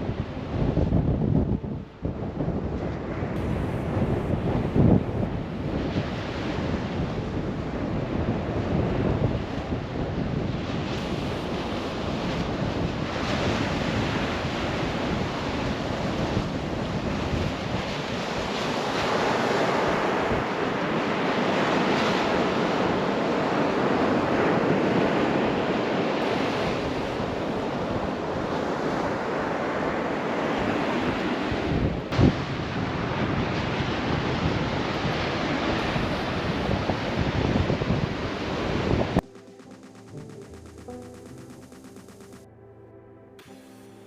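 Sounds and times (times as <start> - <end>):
wind rumbling on microphone: 0.0 - 39.3
surf breaking on beach: 2.5 - 42.4.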